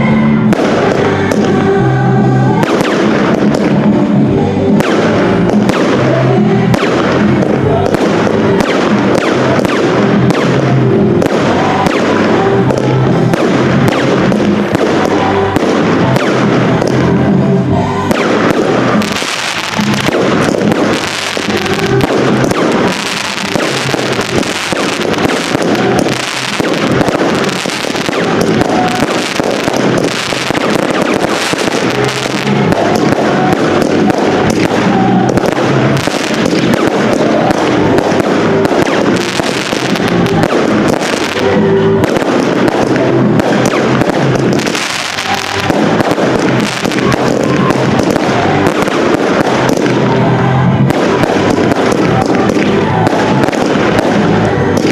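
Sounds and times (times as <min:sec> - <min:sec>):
fireworks bursting and popping: 0:00.0 - 0:54.9
fireworks crackling: 0:00.0 - 0:54.9
music with a steady beat: 0:00.0 - 0:54.9.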